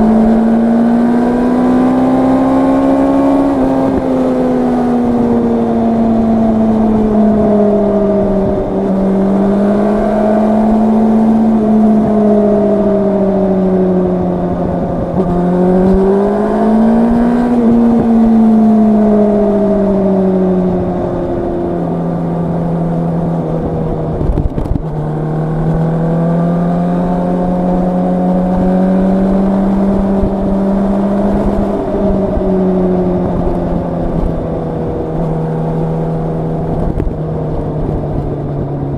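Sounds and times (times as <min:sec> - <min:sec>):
gear change pitch drop: 0:00.0 - 0:38.9
motorcycle engine revving: 0:00.0 - 0:38.9.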